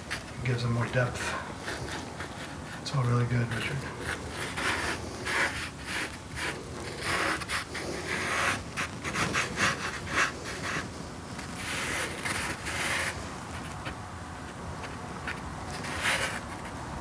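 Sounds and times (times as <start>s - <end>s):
pastel stick scraping paper: 0.0s - 17.0s.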